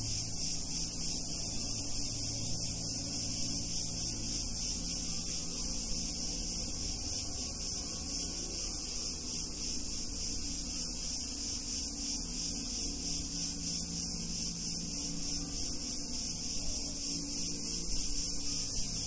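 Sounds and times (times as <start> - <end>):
cicadas buzzing: 0.0 - 19.0.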